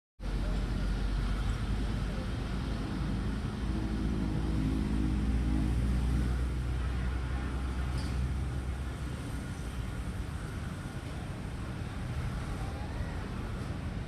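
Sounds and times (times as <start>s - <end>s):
low engine rumble: 0.2s - 14.0s.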